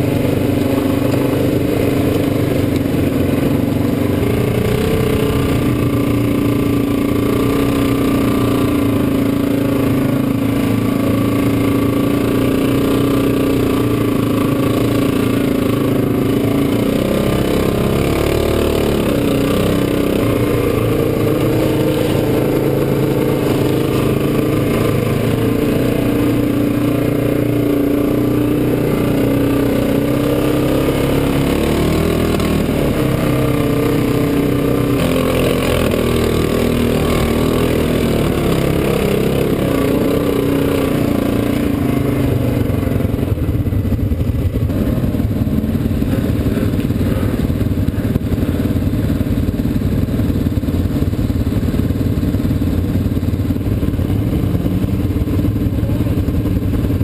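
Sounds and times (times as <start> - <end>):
quad engine running: 0.0 - 57.0.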